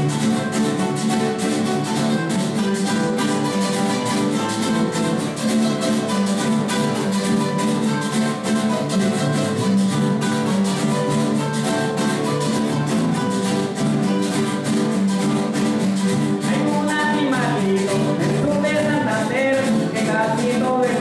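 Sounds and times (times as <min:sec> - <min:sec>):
plucked guitar lead line: 0:00.0 - 0:21.0
scraper keeping a beat: 0:00.0 - 0:21.0
strummed acoustic guitars: 0:00.0 - 0:21.0.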